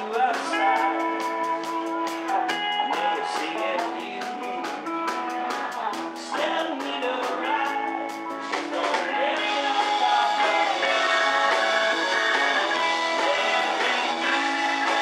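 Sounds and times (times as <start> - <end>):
man singing lead: 0.0 - 15.0
rock band playing live: 0.0 - 15.0.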